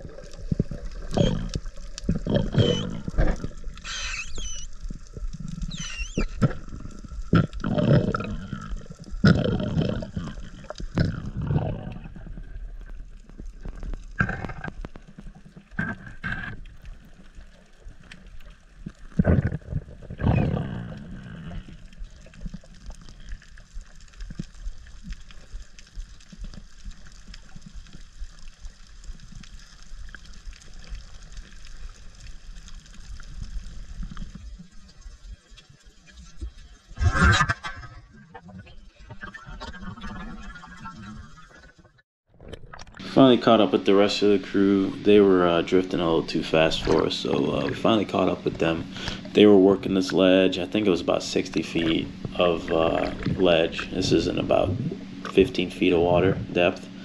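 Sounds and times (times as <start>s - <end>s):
muffled underwater rushing: 0.0s - 57.0s.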